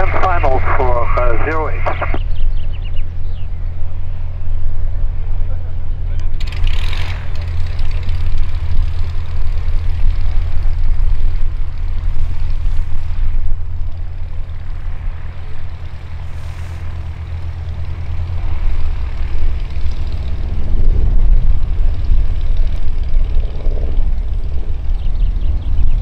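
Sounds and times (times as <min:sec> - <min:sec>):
light aircraft engine drone: 0:00.0 - 0:26.0.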